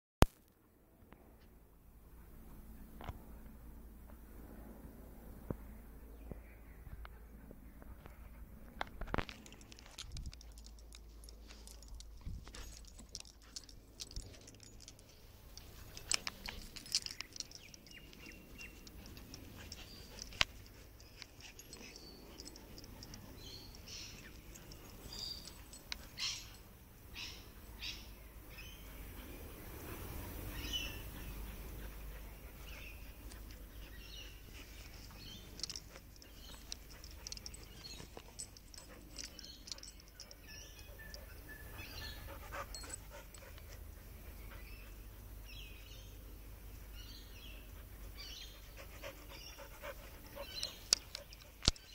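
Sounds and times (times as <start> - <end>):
birds chirping: 6.0 - 51.9.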